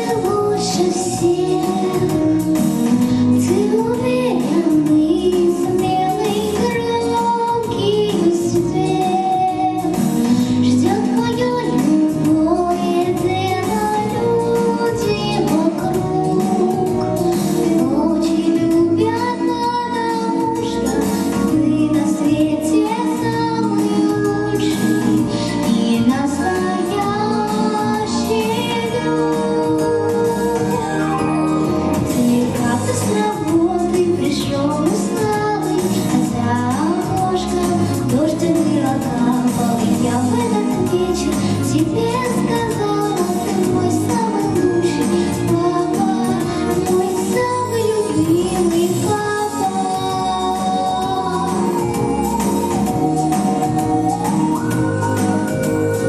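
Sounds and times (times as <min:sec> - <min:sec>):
girl singing into microphone: 0:00.0 - 0:56.0
instrumental accompaniment: 0:00.0 - 0:56.0.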